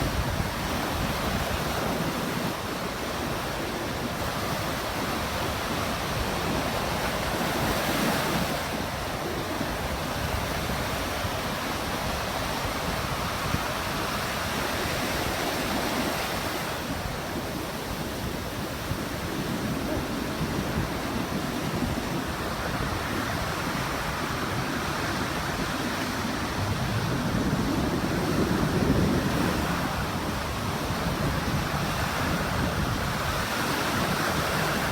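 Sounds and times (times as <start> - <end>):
waves breaking ashore: 0.0 - 34.9.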